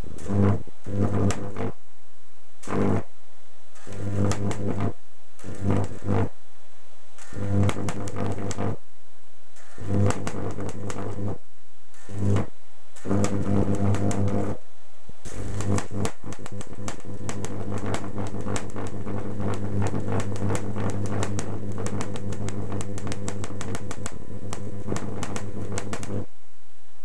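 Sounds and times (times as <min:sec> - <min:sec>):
electric arc buzzing and crackling: 0:00.0 - 0:01.9, 0:02.5 - 0:06.4, 0:07.0 - 0:26.4.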